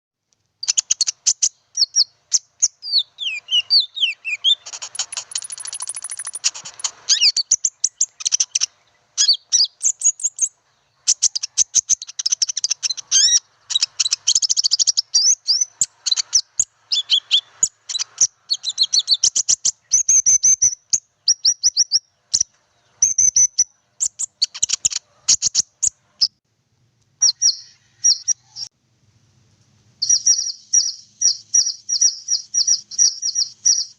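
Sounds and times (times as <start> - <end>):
bird chirping and trilling: 0.6 - 26.4, 27.2 - 28.7, 30.0 - 33.9.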